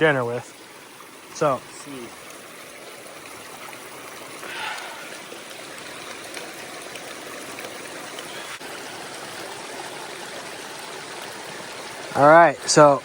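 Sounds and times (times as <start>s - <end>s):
mountain stream flowing: 0.0s - 13.0s.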